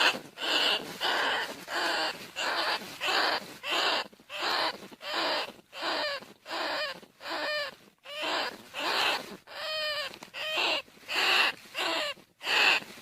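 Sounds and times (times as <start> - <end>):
rat squealing: 0.0 - 13.0.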